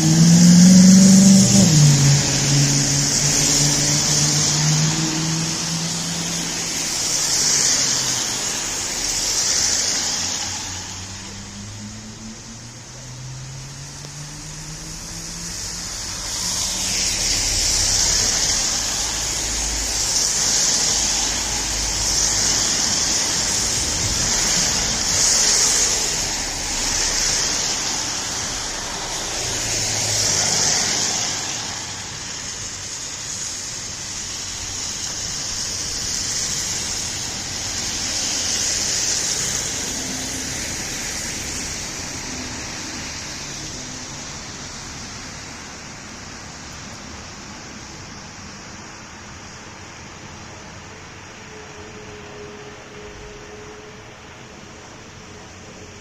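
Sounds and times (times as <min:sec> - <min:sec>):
tyre hiss: 0:00.0 - 0:56.0
vehicles passing: 0:00.0 - 0:56.0.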